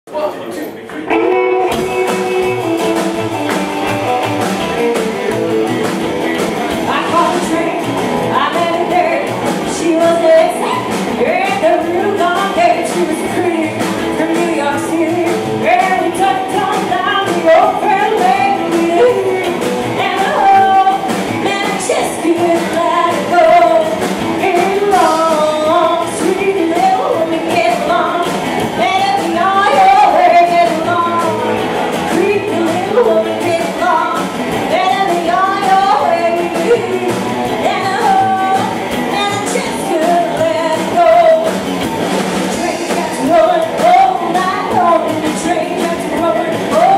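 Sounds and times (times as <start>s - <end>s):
drum kit: 0.1s - 46.9s
electric guitar: 0.1s - 46.9s
upright bass: 0.1s - 46.9s
woman singing lead: 6.7s - 46.9s.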